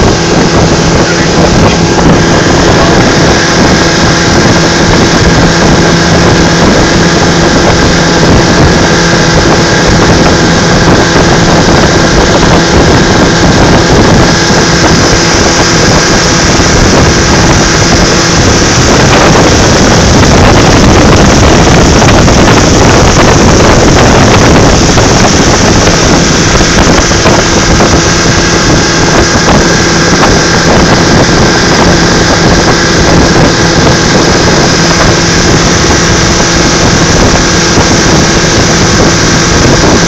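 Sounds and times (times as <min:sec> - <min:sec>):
outboard motor running: 0:00.0 - 0:40.0
water rushing past hull: 0:00.0 - 0:40.0
wind buffeting microphone: 0:00.0 - 0:40.0.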